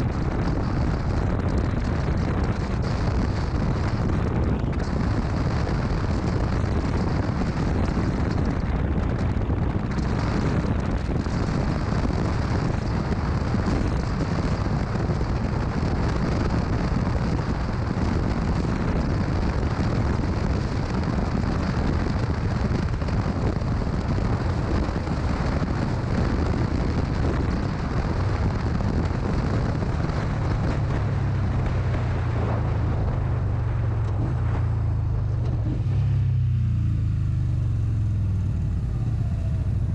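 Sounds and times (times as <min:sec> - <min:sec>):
motorcycle engine droning: 0:00.0 - 0:39.9
wind rushing over microphone: 0:00.0 - 0:39.9.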